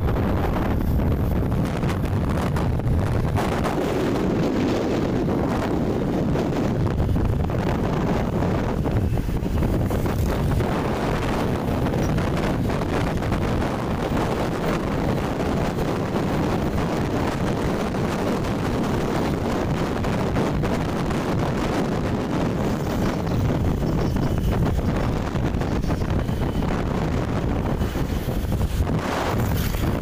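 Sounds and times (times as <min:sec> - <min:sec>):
motorcycle engine and road noise: 0:00.0 - 0:30.0
wind rushing over microphone: 0:00.0 - 0:30.0.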